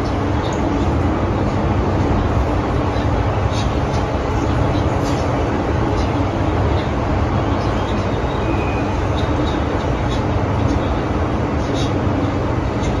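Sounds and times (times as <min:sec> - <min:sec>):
metro car rumble: 0:00.0 - 0:13.0.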